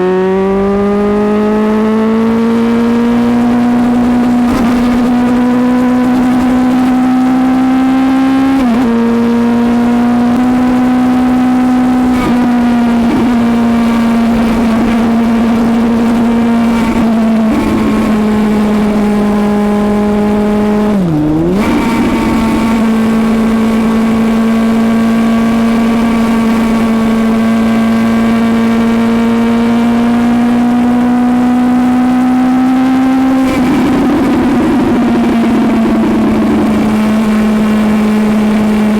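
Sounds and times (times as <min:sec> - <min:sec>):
motorcycle engine at speed: 0:00.0 - 0:38.9.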